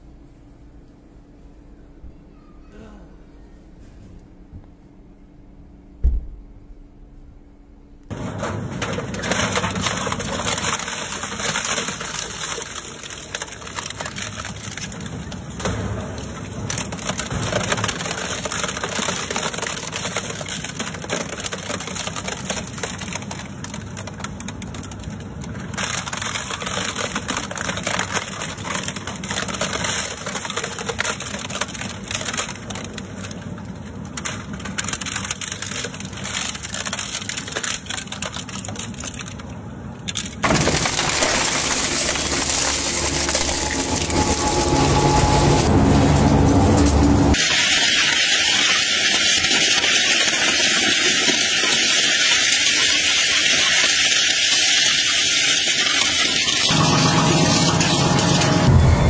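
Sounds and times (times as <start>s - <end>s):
shredder crunching metal and plastic: 8.1s - 59.0s.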